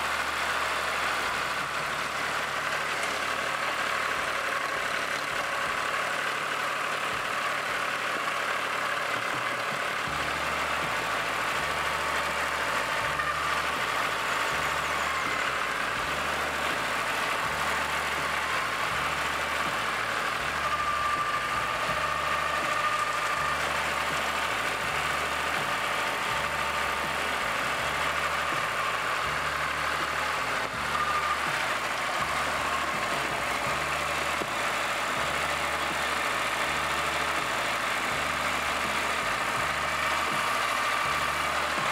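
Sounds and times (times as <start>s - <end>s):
diesel tractor engine running: 0.0s - 41.9s.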